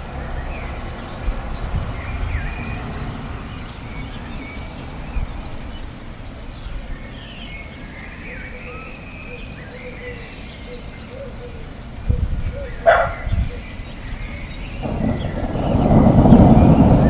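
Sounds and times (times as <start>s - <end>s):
rain: 0.0s - 17.0s
birds chirping and whistling: 1.5s - 5.9s, 6.5s - 17.0s.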